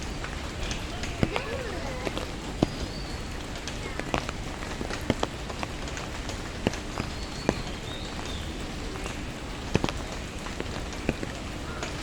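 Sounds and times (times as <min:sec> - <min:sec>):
rain pattering: 0:00.0 - 0:12.0
sharp drips: 0:00.0 - 0:12.0.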